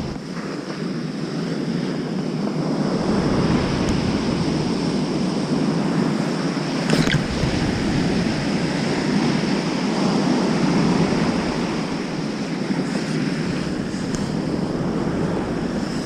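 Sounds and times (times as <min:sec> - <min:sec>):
heavy surf breaking on beach: 0:00.0 - 0:16.0.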